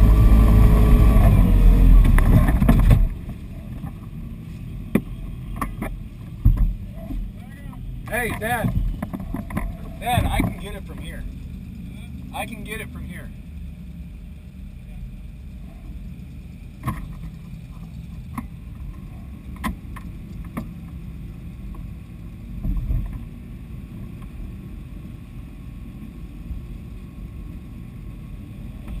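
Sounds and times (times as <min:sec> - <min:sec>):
engine idling: 0:00.0 - 0:25.4.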